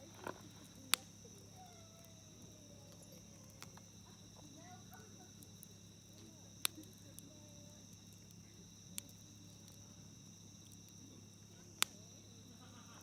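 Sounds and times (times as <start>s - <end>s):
burning wood popping: 0.0s - 13.0s
campfire crackling: 0.0s - 13.0s
insects chirring: 0.0s - 13.0s.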